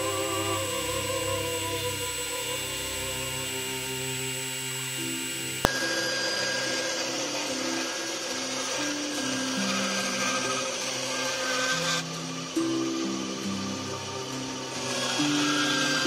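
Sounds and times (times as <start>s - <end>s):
background music: 0.0s - 16.0s
band saw cutting wood: 0.0s - 16.0s.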